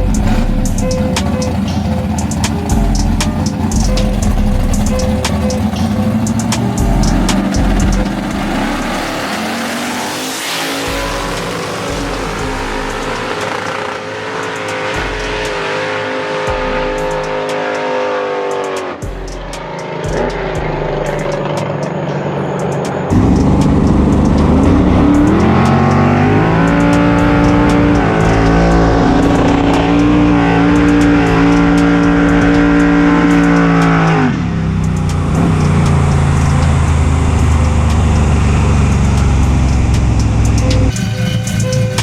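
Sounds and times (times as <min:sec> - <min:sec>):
race car engine at full throttle: 0:00.0 - 0:42.0.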